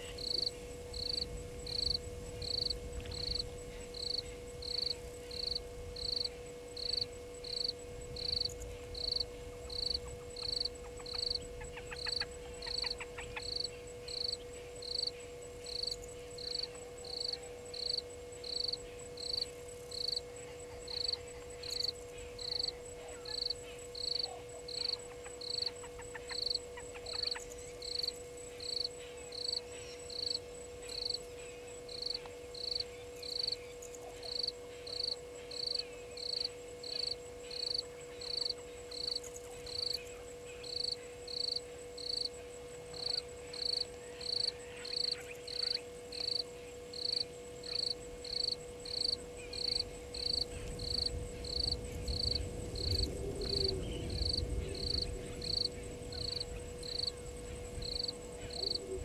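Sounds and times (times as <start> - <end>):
distant bird calls: 0.0 - 59.0
insect chirping: 0.0 - 59.0.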